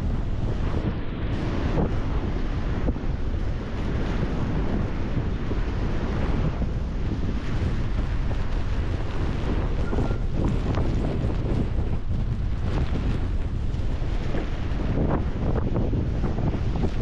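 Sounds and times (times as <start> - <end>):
sea surf: 0.0 - 17.0
strong wind buffeting microphone: 0.0 - 17.0.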